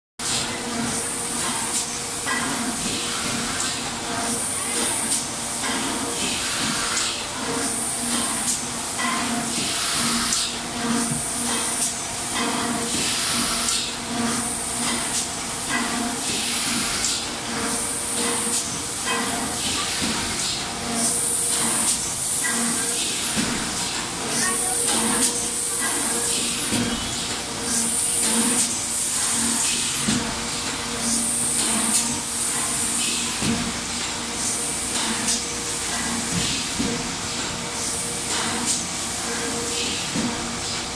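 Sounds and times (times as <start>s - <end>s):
machinery hum: 0.3s - 40.9s.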